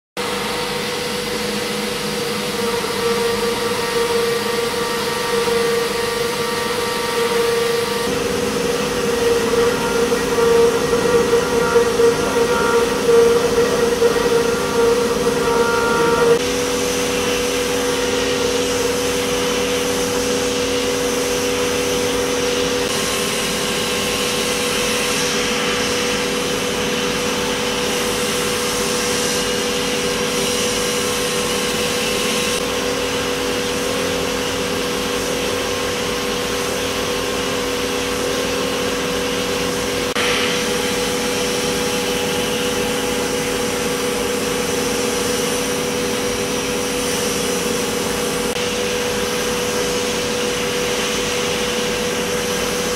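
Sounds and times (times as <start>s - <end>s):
machine spindle whine: 0.2s - 52.9s.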